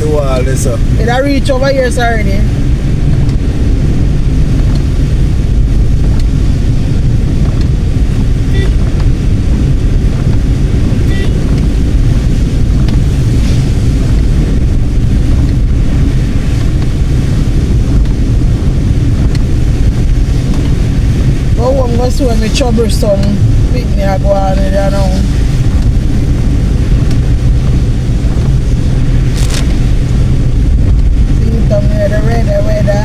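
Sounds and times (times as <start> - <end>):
road noise: 0.0 - 33.0
wind buffeting microphone: 0.0 - 33.0.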